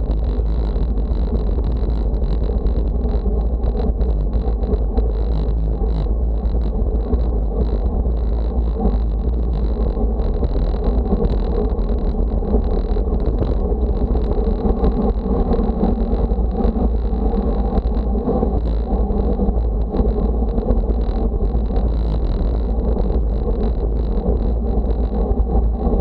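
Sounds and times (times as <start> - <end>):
road noise rumble: 0.0 - 26.0
wind buffeting the microphone: 0.0 - 26.0.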